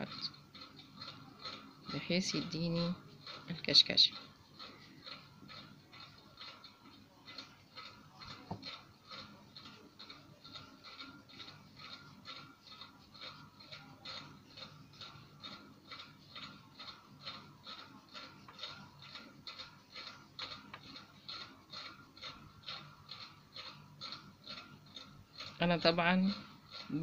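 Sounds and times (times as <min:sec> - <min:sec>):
rapid mechanical clicking: 0:00.0 - 0:27.0.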